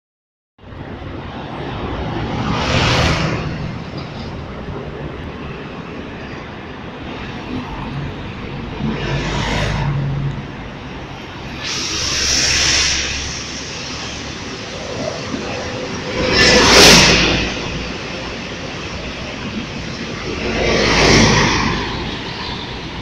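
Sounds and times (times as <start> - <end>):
bus driving past: 0.6 - 23.0
cars passing: 0.6 - 23.0.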